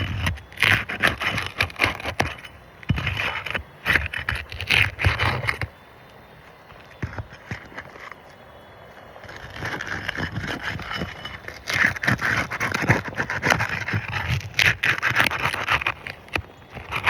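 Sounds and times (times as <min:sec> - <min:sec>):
roof tool scraping under shingles: 0:00.0 - 0:05.7, 0:06.9 - 0:08.2, 0:09.0 - 0:17.0.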